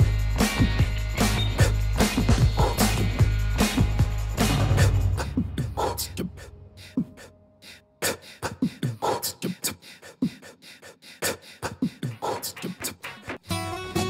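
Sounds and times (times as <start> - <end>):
percussive beatbox-style music: 0.0 - 7.3, 8.0 - 13.5.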